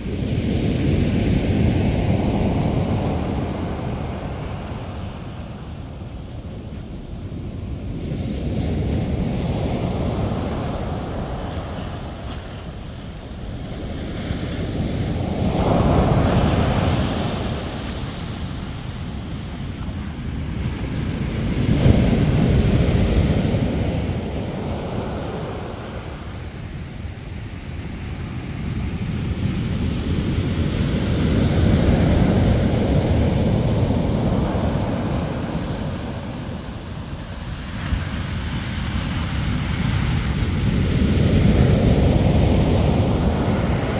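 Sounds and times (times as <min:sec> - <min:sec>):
ocean surf breaking: 0:00.0 - 0:43.9
wind rumble on microphone: 0:00.0 - 0:43.9.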